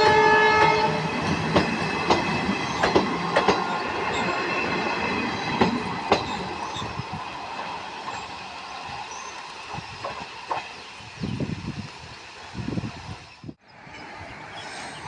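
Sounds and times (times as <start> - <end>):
train wheels clicking on rails: 0.1 - 12.8.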